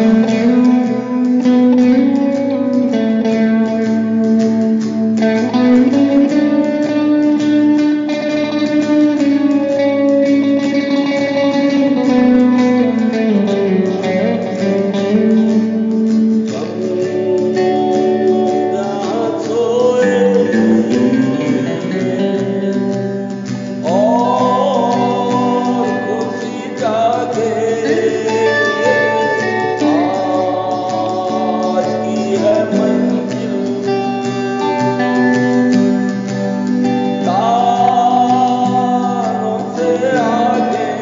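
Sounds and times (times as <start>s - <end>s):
acoustic guitar strumming: 0.0s - 41.0s
electric lead guitar melody: 0.0s - 41.0s.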